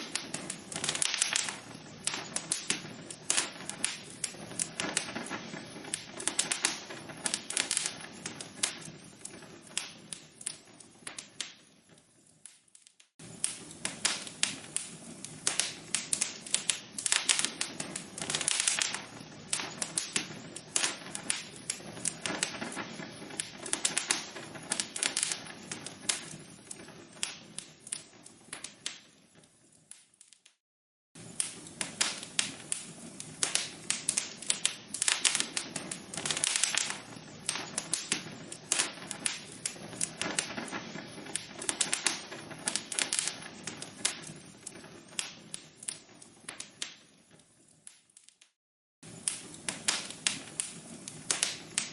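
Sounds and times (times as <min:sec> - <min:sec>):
wood fire crackling: 0:00.0 - 0:30.6, 0:31.2 - 0:51.9.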